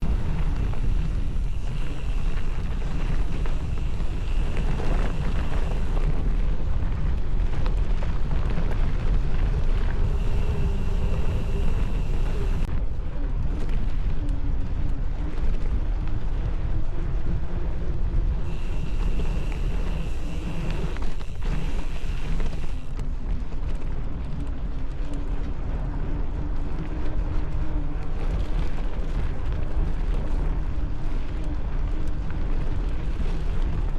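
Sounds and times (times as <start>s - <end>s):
bicycle tyres rolling: 0.0s - 33.9s
tyre tread hum: 0.0s - 33.9s
wind noise: 0.0s - 33.9s.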